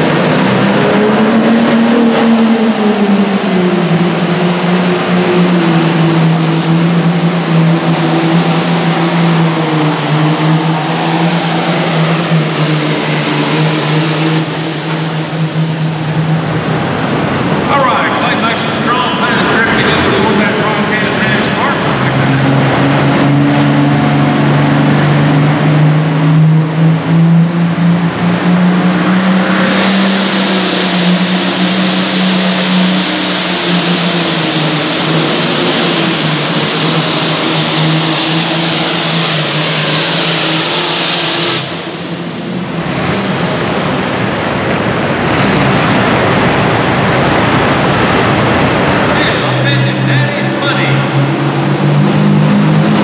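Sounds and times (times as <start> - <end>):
diesel tractor engine under load: 0.0 - 53.0.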